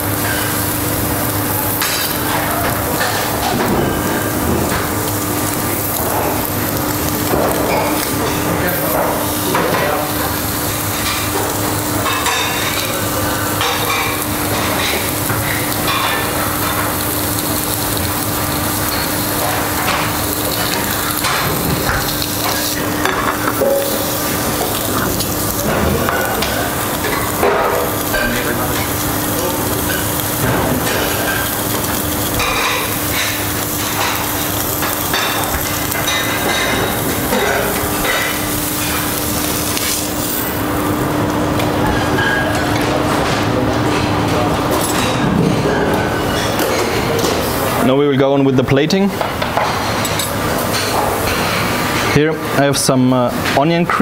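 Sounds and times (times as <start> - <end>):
steak sizzling in a grill pan: 0.0 - 42.9, 46.0 - 47.8, 49.2 - 52.6.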